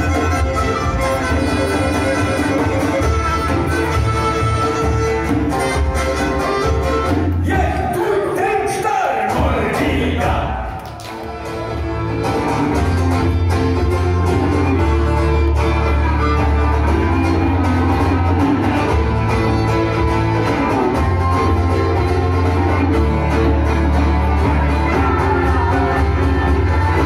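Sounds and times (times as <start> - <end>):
fiddle: 0.0 - 7.3, 11.3 - 27.0
upright bass: 0.0 - 27.0.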